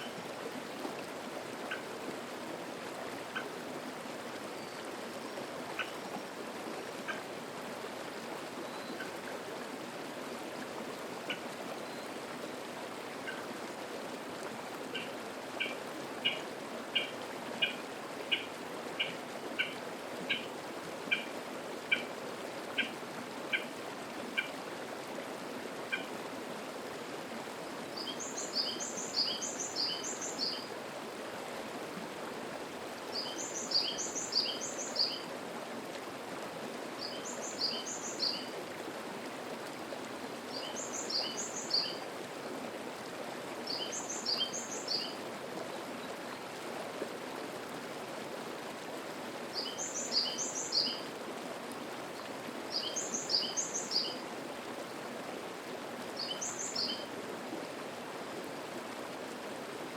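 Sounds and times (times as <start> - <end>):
mountain stream babbling: 0.0 - 59.9.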